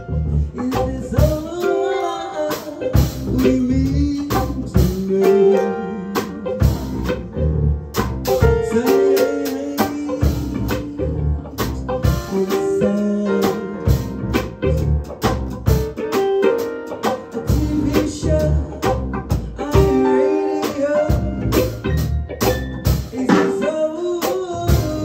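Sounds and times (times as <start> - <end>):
jazz band playing: 0.0 - 25.0
drum strokes: 2.5 - 25.0.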